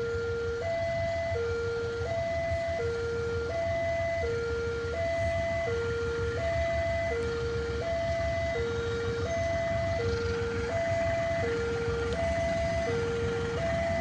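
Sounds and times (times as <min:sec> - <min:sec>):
low steady rumble: 0:00.0 - 0:14.0
two-tone crossing alarm: 0:00.0 - 0:14.0.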